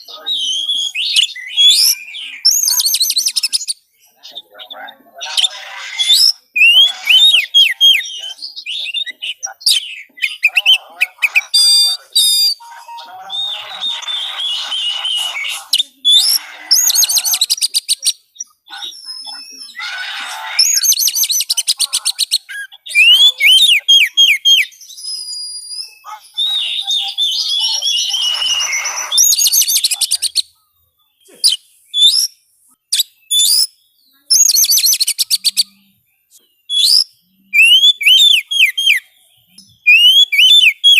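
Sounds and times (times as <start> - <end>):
songbird singing whistles and trills: 0.0 - 40.9.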